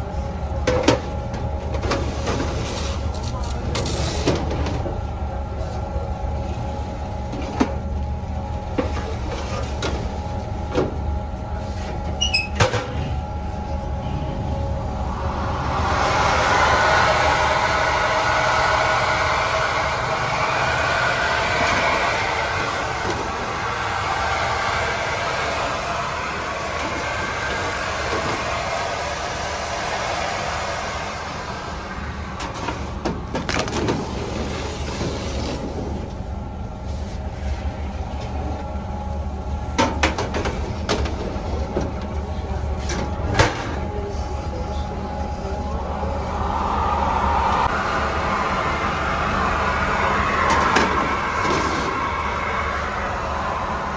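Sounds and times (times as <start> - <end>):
low machine rumble: 0.0 - 53.9.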